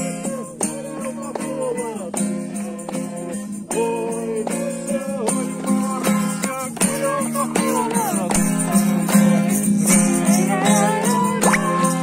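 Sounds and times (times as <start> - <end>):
people singing: 0.0 - 12.0
shaken hand percussion: 0.0 - 12.0
strummed acoustic guitar: 0.0 - 12.0.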